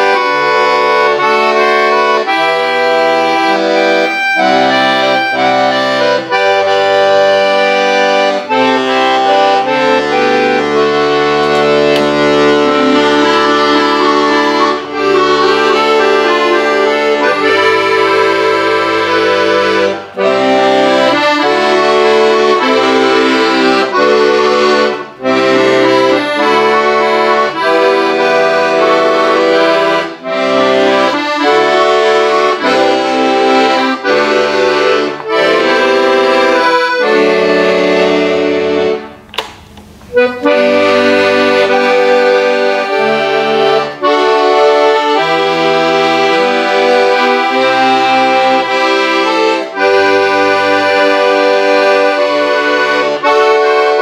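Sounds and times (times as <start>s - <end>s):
piano accordion playing: 0.0s - 54.0s.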